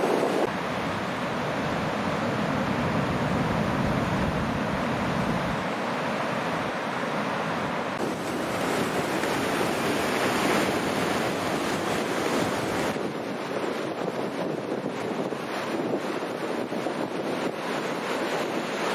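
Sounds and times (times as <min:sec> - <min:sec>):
wind buffeting microphone: 0:00.0 - 0:05.8, 0:07.6 - 0:18.9
ocean surf breaking: 0:00.0 - 0:18.9.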